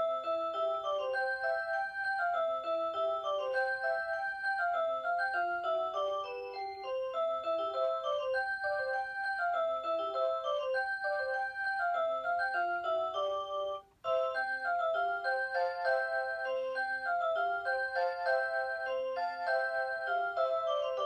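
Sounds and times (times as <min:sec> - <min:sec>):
alarm clock chiming melody: 0:00.0 - 0:21.0.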